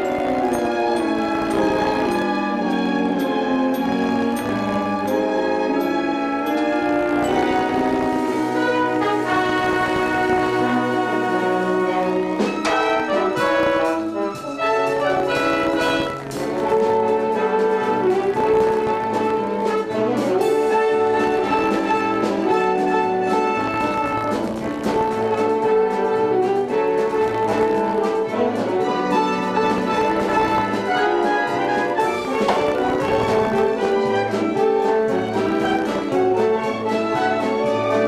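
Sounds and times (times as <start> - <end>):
orchestral music with brass: 0.0 - 38.0.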